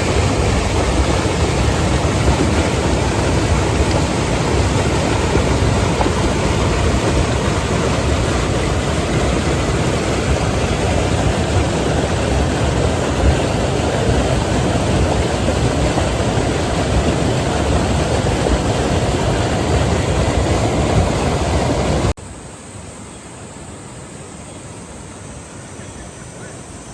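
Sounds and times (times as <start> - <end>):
stream rushing over rocks: 0.0 - 22.2.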